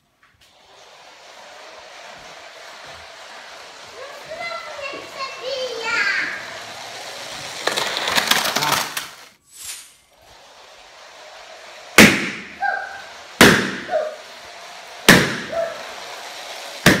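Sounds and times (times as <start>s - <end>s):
rapid clatter: 0.5s - 9.4s, 10.1s - 17.0s.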